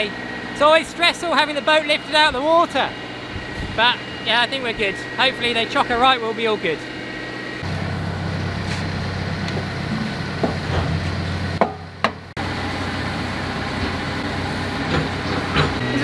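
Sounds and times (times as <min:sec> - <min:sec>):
lift engine humming: 0:00.0 - 0:16.0.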